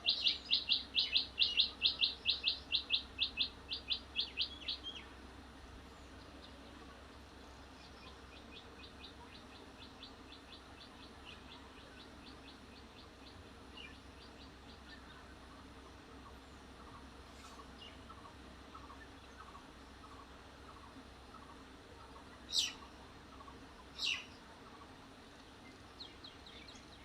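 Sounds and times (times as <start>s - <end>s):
lower bird chirps: 0.0s - 5.2s, 5.9s - 27.0s
faint low hum: 0.0s - 27.0s.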